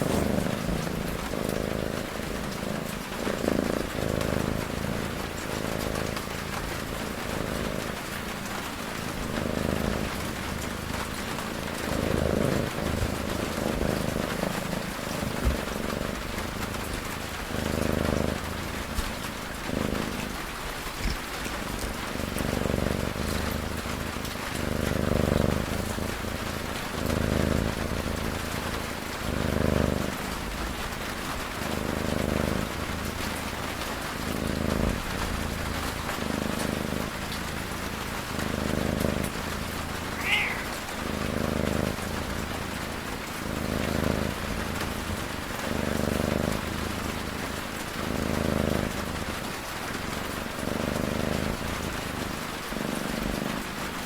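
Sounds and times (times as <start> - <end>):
cat snoring: 0.0 - 54.0
rain hissing: 0.0 - 54.0.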